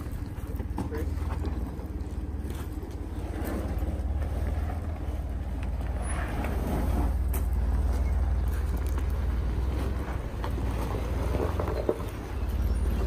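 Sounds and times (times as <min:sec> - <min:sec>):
road noise: 0:00.0 - 0:13.0
vehicle engine drone: 0:00.0 - 0:13.0.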